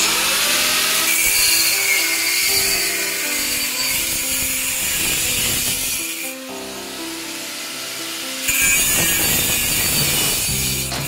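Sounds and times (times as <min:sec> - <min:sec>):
background music: 0:00.0 - 0:11.0
power tool high whine: 0:00.0 - 0:11.0
power tool hiss on metal: 0:00.0 - 0:11.0.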